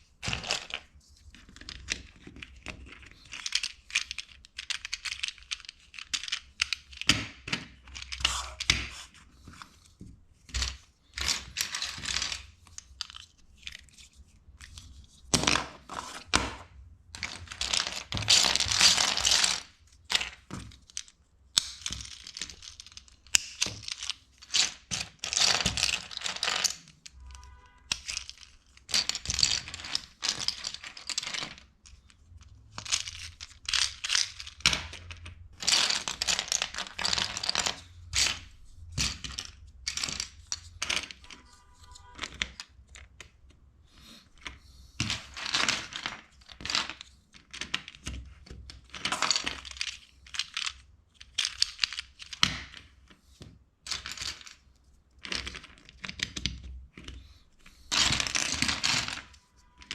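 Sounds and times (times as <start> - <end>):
plastic bricks clattering: 0.2 - 9.7, 10.4 - 27.2, 27.9 - 43.0, 44.0 - 53.0, 53.9 - 54.6, 55.2 - 59.9.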